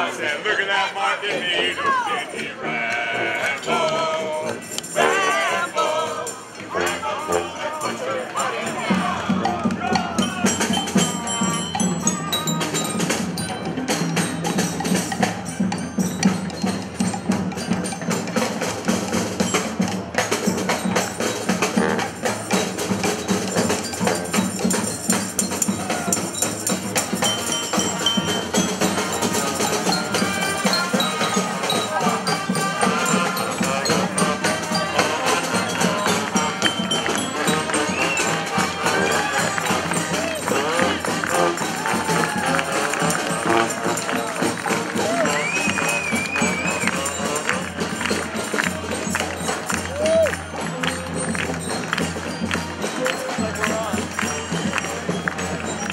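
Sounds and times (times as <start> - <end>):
brass band playing: 0.0 - 55.9
drumming and percussion: 0.0 - 55.9.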